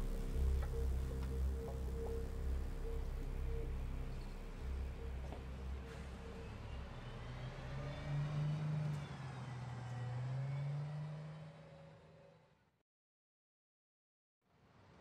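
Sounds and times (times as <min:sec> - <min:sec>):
vehicle engine running: 0:00.0 - 0:12.2.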